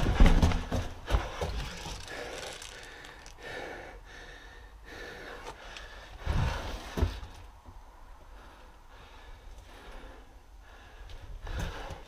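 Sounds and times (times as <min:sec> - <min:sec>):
person breathing hard: 0:00.0 - 0:07.3, 0:08.2 - 0:12.0.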